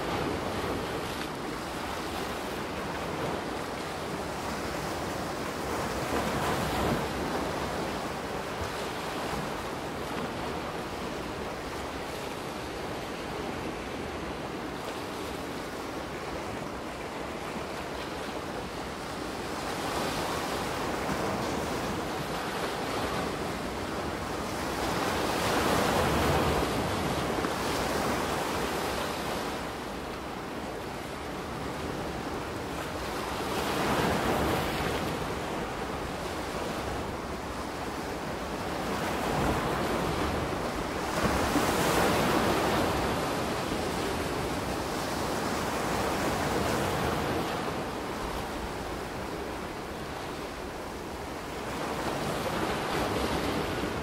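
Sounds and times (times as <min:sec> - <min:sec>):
ocean waves washing onto beach: 0:00.0 - 0:54.0.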